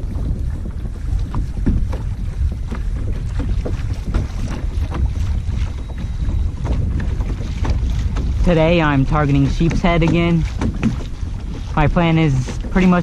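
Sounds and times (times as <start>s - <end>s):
water splashing against kayak hull: 0.0s - 13.0s
wind buffeting microphone: 0.0s - 13.0s.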